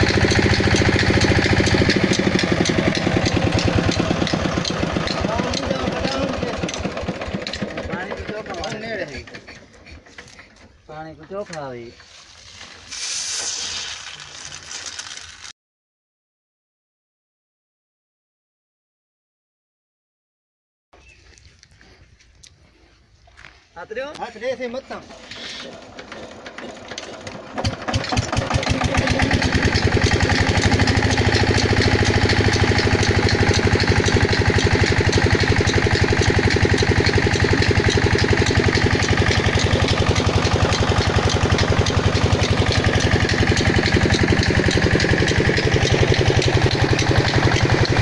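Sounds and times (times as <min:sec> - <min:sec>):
diesel engine starting and running: 0:00.0 - 0:15.5, 0:24.4 - 0:48.0.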